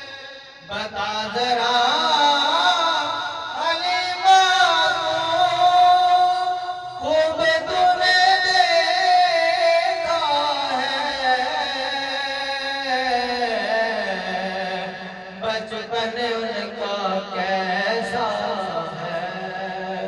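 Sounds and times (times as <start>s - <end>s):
man singing through microphone: 0.0s - 20.0s.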